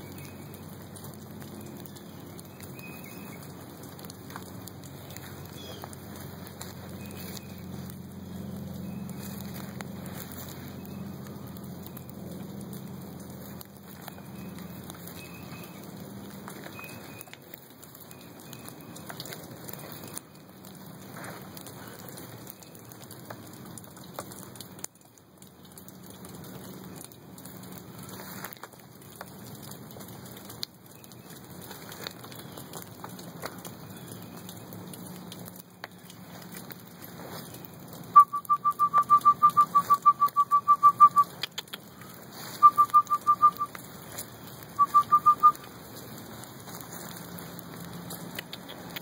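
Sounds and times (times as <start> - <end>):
small crackles and ticks: 0.0 - 49.0.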